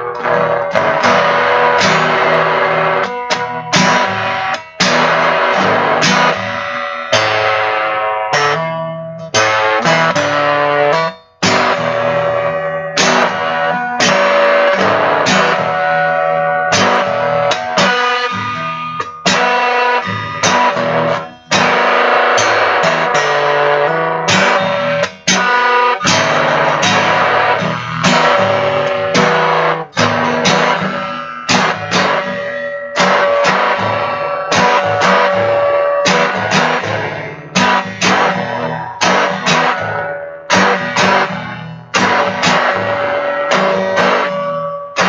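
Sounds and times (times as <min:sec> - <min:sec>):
bass line: 0:00.0 - 0:10.8, 0:11.4 - 0:45.0
guitar chords through effects: 0:00.0 - 0:45.0.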